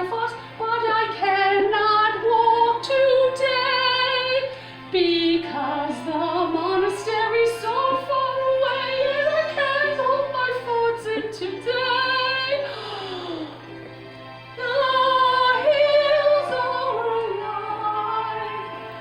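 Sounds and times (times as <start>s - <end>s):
woman singing with vibrato: 0.0s - 13.6s, 14.6s - 19.0s.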